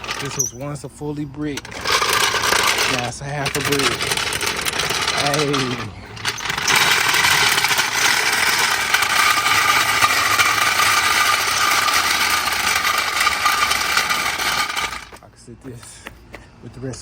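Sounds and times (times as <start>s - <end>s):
machine grinding brick: 0.0s - 15.2s.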